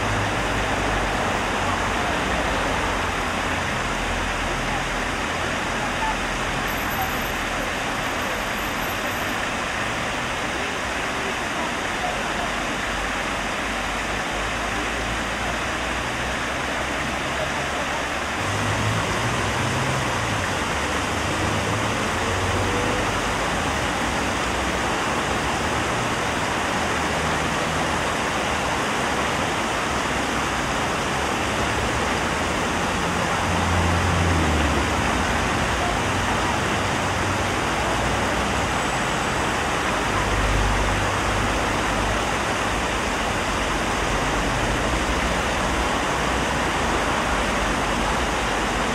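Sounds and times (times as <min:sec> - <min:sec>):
fountain water splashing: 0:00.0 - 0:48.9
low rumble of road traffic: 0:00.0 - 0:48.9.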